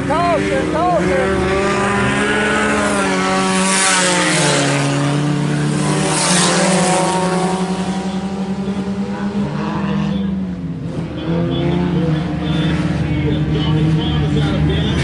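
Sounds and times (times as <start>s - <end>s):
cars passing with tyre noise: 0.0s - 15.0s
race car engines running: 0.0s - 15.0s.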